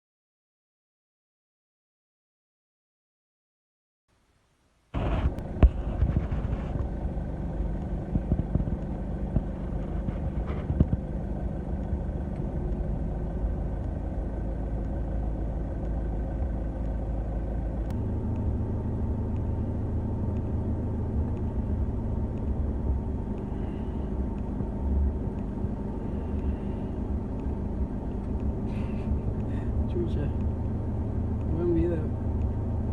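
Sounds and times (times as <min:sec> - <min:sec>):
pickup truck engine running: 0:04.9 - 0:32.9.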